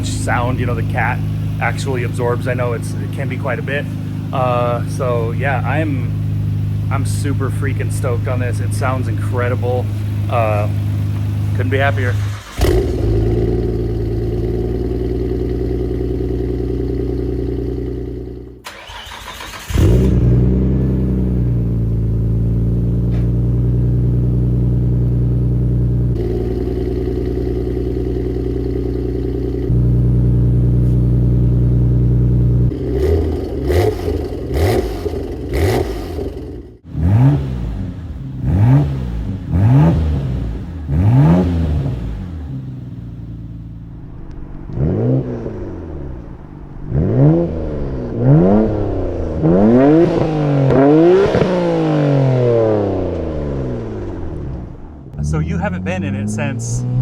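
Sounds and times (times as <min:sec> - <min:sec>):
car engine idling: 0:00.0 - 0:49.6, 0:51.9 - 0:57.0
car engine revving: 0:00.0 - 0:57.0.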